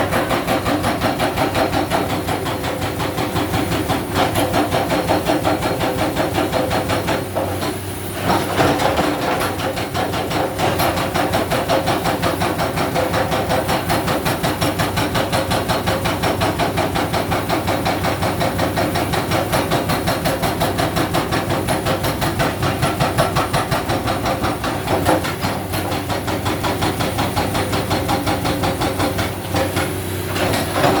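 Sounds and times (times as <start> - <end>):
hydraulic breaker hammering rock: 0.0 - 31.0.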